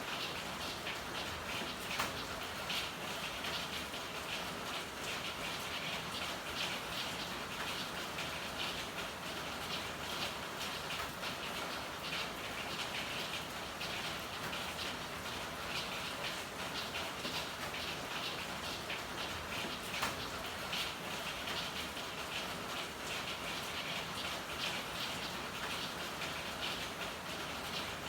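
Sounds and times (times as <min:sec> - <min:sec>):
rain pattering and dripping: 0:00.0 - 0:28.0.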